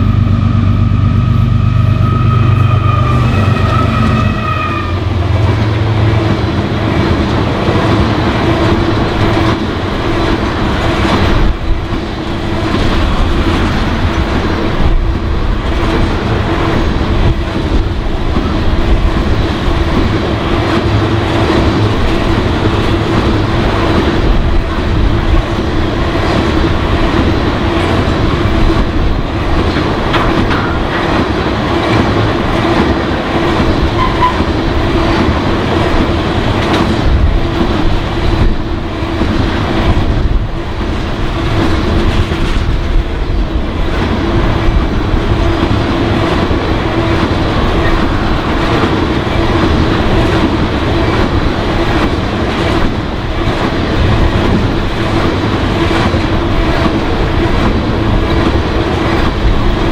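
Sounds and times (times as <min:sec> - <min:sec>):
freight train rumbling past: 0:00.0 - 0:59.9
wheels clattering on rails: 0:03.0 - 0:59.9.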